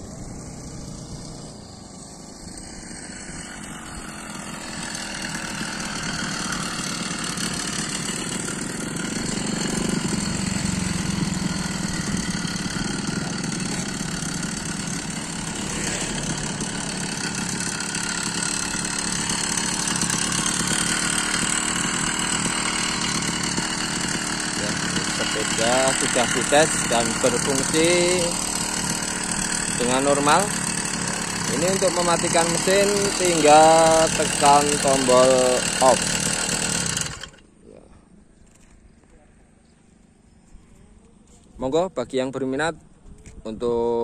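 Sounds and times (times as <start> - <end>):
two-stroke engine running: 0.0 - 37.6.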